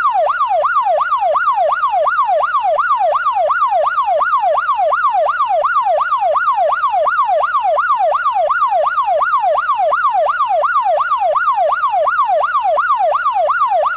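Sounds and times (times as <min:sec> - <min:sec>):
police siren yelping: 0:00.0 - 0:13.9.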